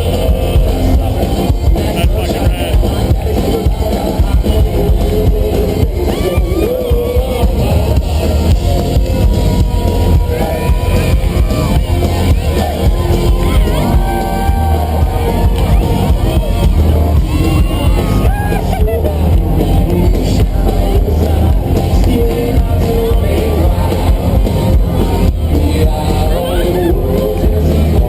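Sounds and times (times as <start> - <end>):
live country-rock band: 0.0 - 28.0
person singing: 0.0 - 28.0.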